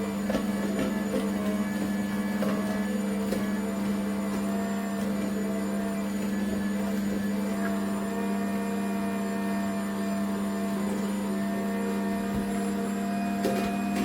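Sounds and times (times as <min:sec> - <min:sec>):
juicer motor humming: 0:00.0 - 0:14.0.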